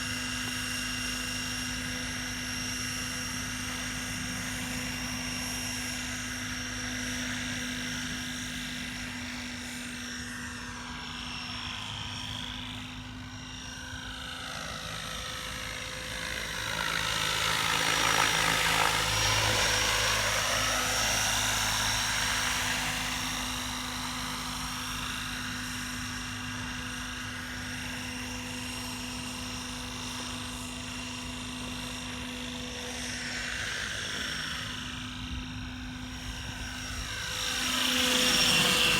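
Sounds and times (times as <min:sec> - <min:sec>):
model helicopter rotor whine: 0:00.0 - 0:38.9.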